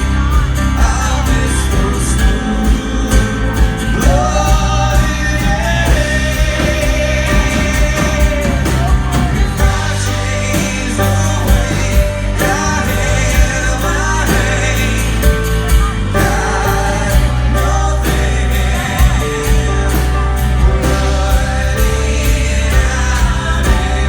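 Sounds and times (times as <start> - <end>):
bass line: 0.0 - 24.0
drum hits: 0.0 - 24.0
live band playing: 0.0 - 24.0
person singing: 0.0 - 24.0.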